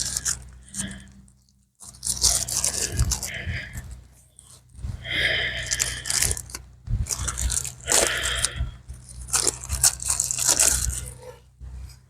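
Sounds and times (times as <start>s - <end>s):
plastic packaging crinkling: 0.0s - 1.1s, 1.8s - 11.3s
steady low hum: 0.0s - 12.0s.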